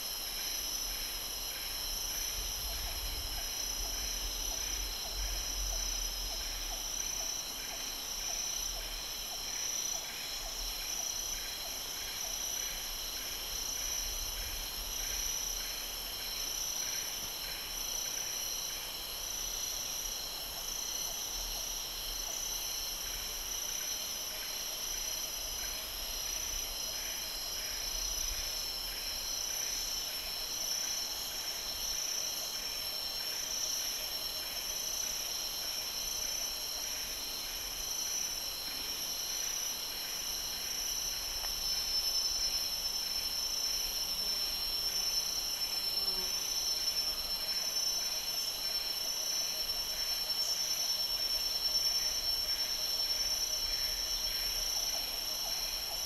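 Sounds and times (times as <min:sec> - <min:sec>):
insect pulsing call: 0:00.0 - 0:56.0.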